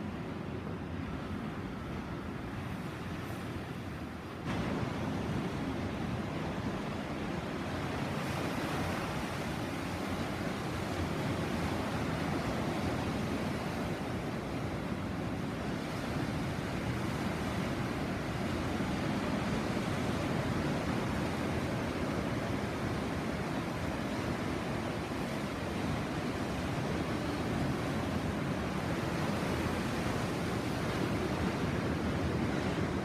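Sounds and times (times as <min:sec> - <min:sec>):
sea surf washing onto shore: 0:00.0 - 0:33.0.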